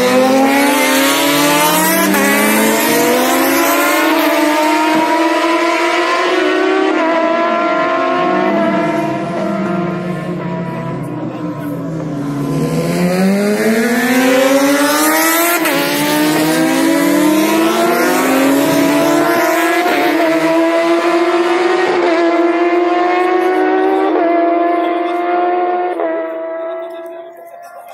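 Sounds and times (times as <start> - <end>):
superbike engines at full throttle: 0.0 - 27.9.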